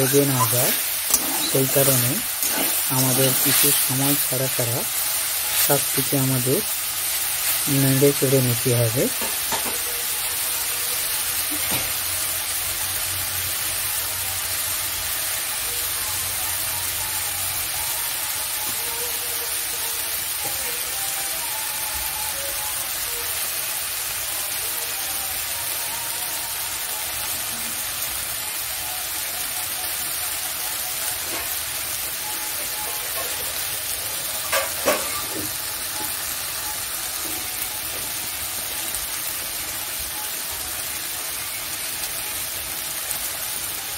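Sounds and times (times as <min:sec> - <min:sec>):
greens sizzling in oil: 0:00.0 - 0:43.9.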